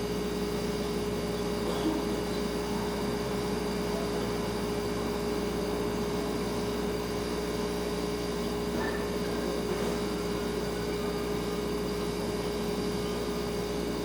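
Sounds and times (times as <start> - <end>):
refrigerator humming: 0.0 - 14.0.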